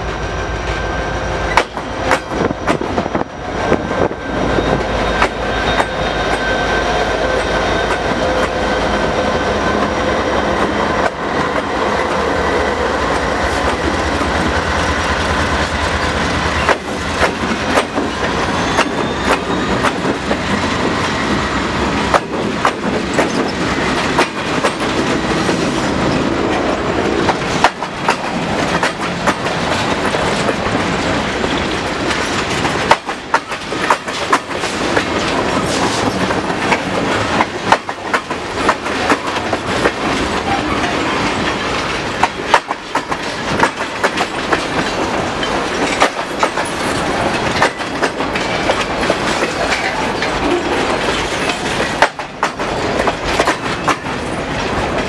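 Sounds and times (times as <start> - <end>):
diesel locomotive passing: 0.0 - 55.0
train wheels clicking on rails: 0.0 - 55.0.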